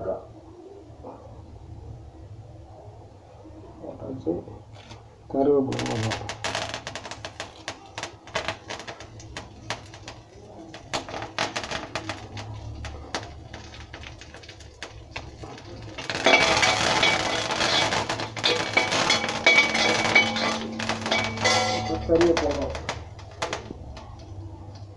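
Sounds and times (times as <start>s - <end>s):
spices crackling and popping: 4.7s - 24.9s.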